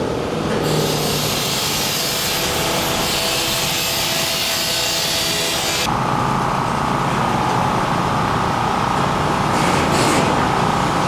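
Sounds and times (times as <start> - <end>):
machinery whining and rumbling: 0.0 - 11.0.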